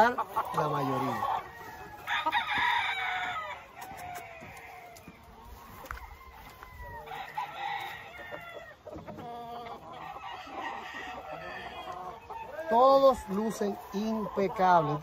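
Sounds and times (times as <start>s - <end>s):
roosters crowing: 0.0s - 15.0s.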